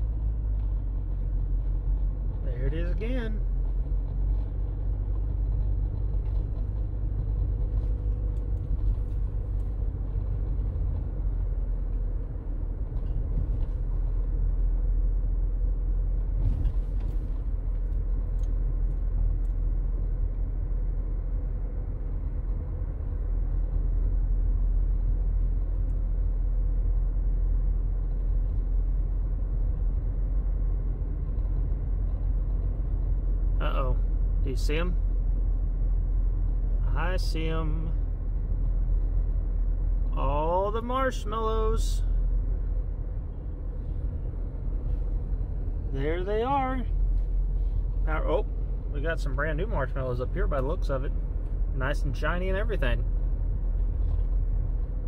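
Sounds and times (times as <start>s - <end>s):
car road rumble inside cabin: 0.0s - 55.0s.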